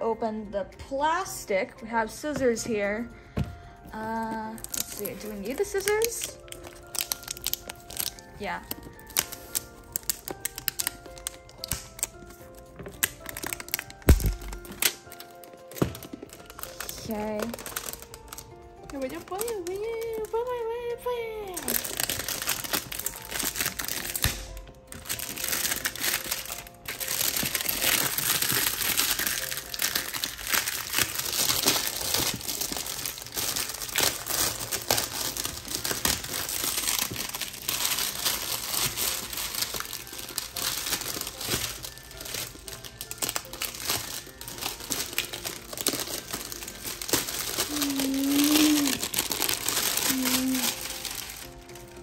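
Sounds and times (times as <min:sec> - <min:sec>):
plastic shrink wrap crinkling: 0:03.8 - 0:52.0.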